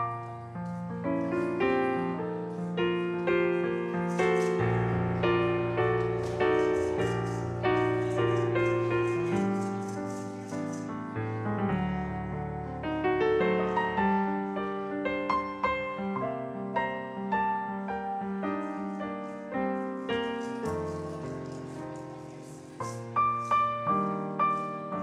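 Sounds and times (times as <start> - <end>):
solo grand piano: 0.0 - 25.0.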